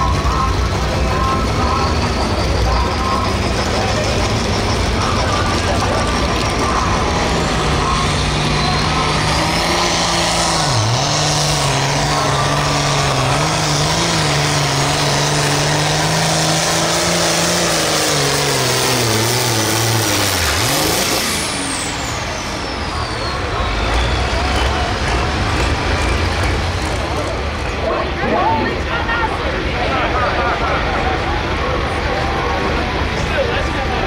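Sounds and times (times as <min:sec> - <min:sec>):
diesel engine running flat out: 0:00.0 - 0:34.0
high turbo whine: 0:00.0 - 0:34.0.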